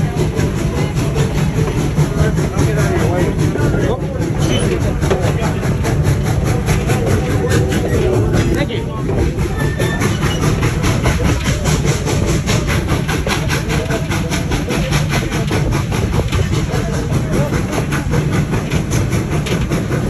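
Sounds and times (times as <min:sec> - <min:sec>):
steam locomotive chuffing: 0:00.0 - 0:20.0
train rumble: 0:00.0 - 0:20.0.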